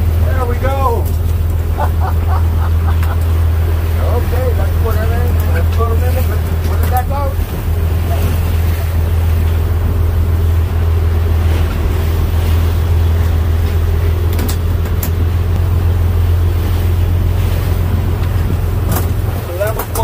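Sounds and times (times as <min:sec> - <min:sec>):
boat engine droning: 0:00.0 - 0:20.0
wake water rushing: 0:00.0 - 0:20.0
wind: 0:00.0 - 0:20.0.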